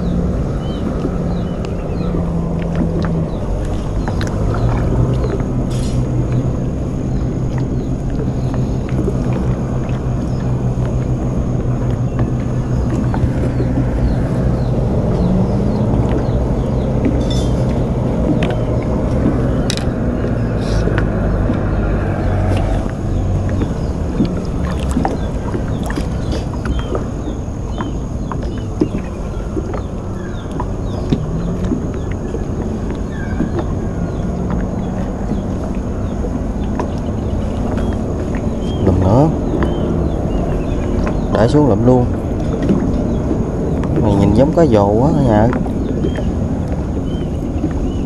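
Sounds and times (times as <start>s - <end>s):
boat motor humming: 0.0s - 48.0s.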